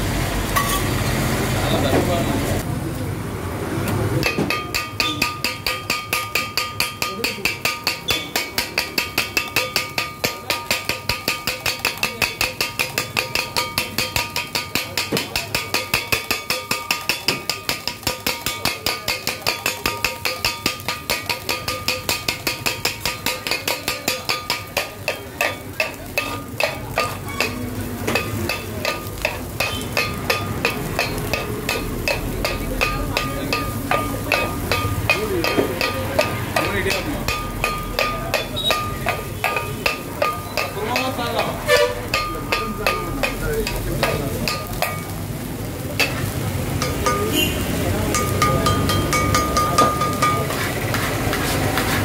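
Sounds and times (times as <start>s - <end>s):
steel blades chopping on griddle: 4.2s - 45.3s, 45.9s - 52.0s.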